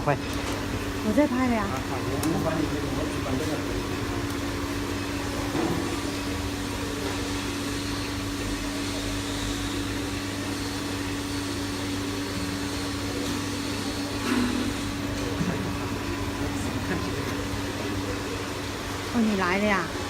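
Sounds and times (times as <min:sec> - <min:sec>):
furnace electrical hum: 0:00.0 - 0:20.0.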